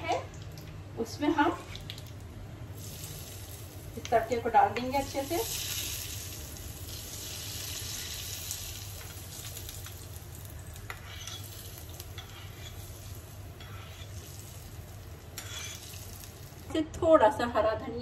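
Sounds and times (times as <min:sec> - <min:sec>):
hot oil sizzling: 0:00.4 - 0:17.3.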